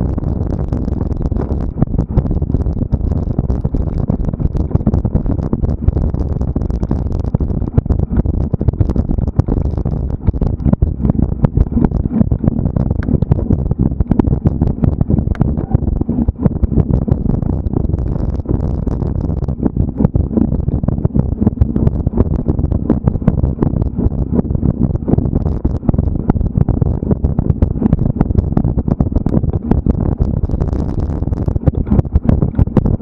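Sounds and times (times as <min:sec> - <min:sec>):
wind rumble: 0:00.0 - 0:33.0.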